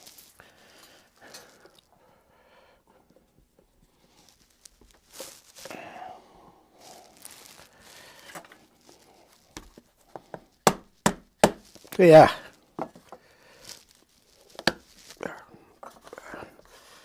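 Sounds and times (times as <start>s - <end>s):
rustling and handling noises: 0.0s - 2.2s, 3.0s - 17.0s.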